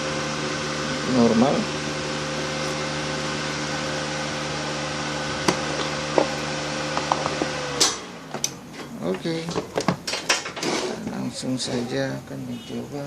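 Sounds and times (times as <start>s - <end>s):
welder cooling fan whirring: 0.0s - 13.0s.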